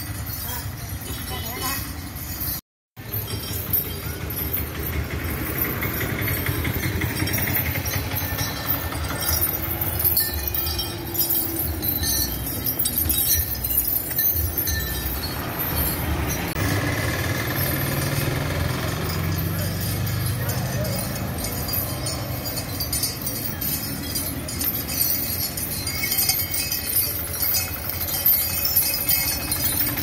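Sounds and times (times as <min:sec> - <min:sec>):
motorcycle engine: 0:00.0 - 0:30.0
vehicle engines passing: 0:00.0 - 0:30.0.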